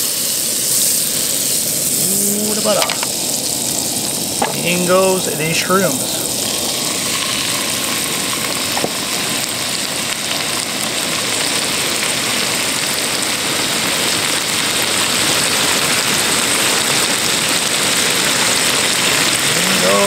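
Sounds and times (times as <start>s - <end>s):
mushrooms sizzling in butter: 0.0s - 20.0s.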